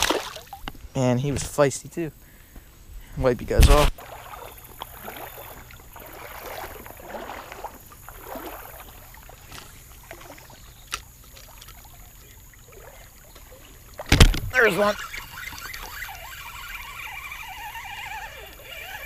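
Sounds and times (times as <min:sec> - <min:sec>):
water sloshing around wading legs: 0:00.0 - 0:00.9, 0:03.9 - 0:19.0.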